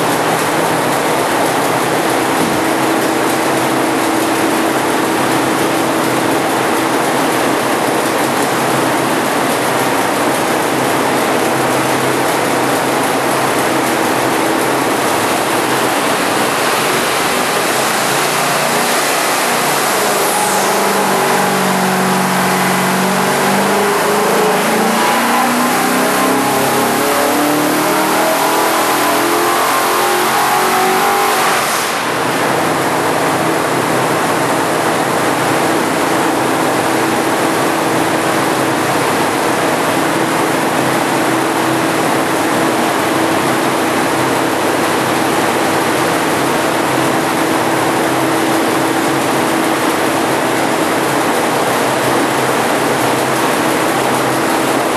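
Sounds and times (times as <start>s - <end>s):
engine revving at full throttle: 0.0s - 54.9s.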